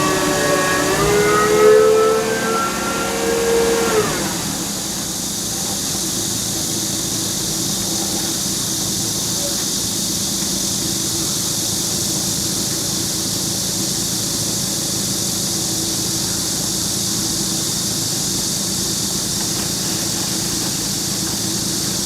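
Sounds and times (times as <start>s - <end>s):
loud high hiss: 0.0s - 22.0s
steady engine hum: 0.0s - 22.0s.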